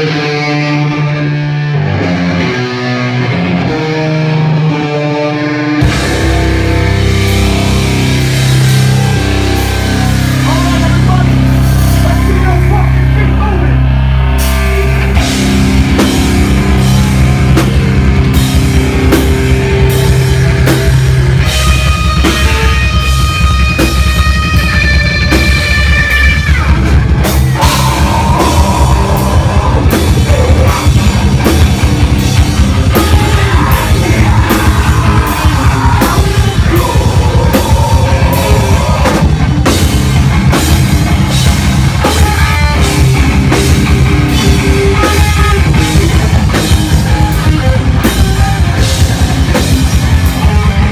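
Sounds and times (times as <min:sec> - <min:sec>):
heavy rock band playing: 0:00.0 - 0:50.9.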